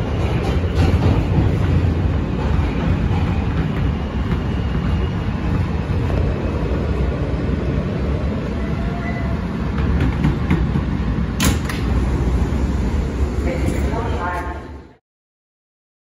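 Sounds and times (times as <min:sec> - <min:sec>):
subway car rumble: 0:00.0 - 0:15.0.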